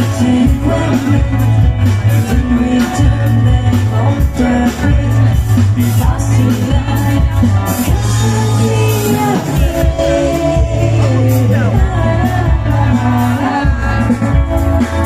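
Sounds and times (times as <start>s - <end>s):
heavy low bass: 0.0s - 15.0s
live band playing: 0.0s - 15.0s
person singing: 0.0s - 15.0s.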